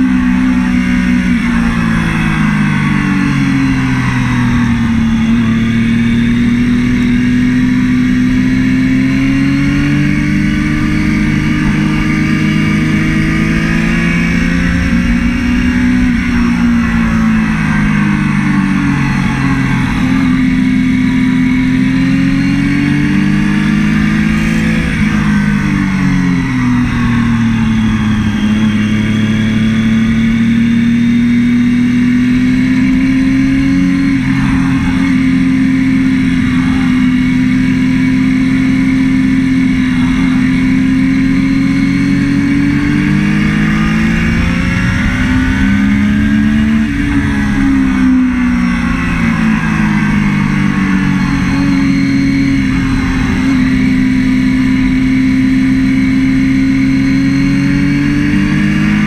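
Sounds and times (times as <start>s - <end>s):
motorcycle engine at high revs: 0.0s - 59.0s
steady rushing noise: 0.0s - 59.0s.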